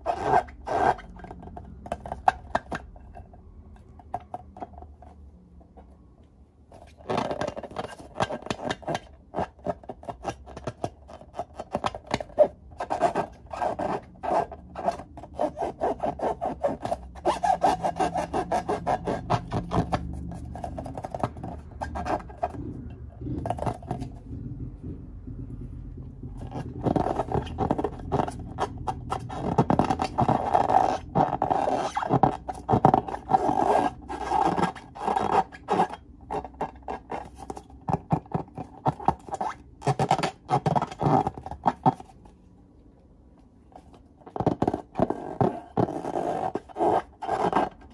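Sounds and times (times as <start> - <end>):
hands rubbing balloons: 0.0 - 2.9, 6.7 - 24.8, 25.6 - 42.3, 43.8 - 47.9.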